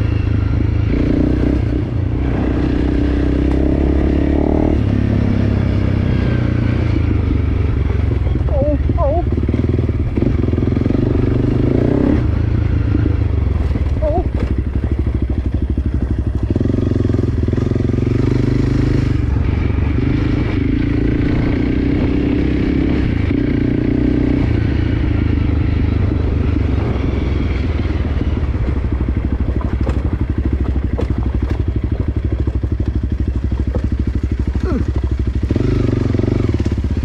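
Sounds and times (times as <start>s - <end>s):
dirt bike engine: 0.0s - 37.0s.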